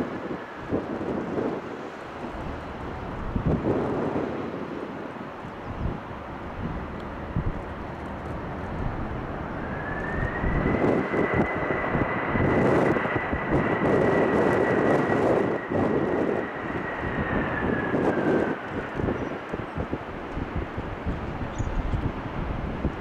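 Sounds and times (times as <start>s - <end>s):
high engine whine: 0.0s - 23.0s
jet engines roaring: 0.0s - 23.0s.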